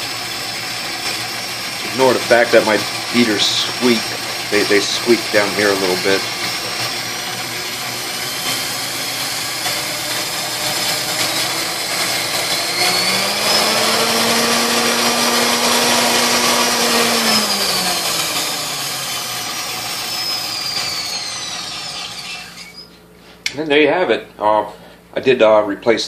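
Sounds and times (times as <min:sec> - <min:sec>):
stand mixer motor running: 0:00.0 - 0:22.9.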